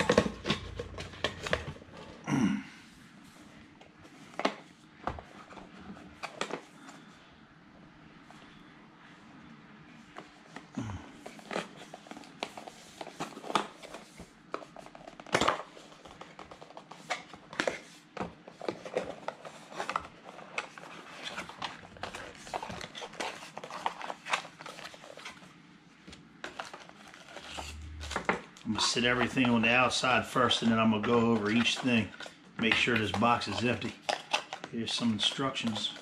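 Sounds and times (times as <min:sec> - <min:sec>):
packaging clicks and rustles: 0:00.0 - 0:02.3, 0:03.8 - 0:07.1, 0:10.2 - 0:36.0.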